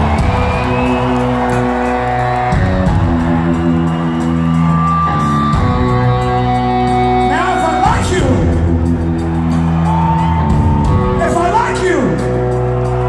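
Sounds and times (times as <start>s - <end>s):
electric guitar chords: 0.0s - 11.3s
live rock band playing loud: 0.0s - 13.0s.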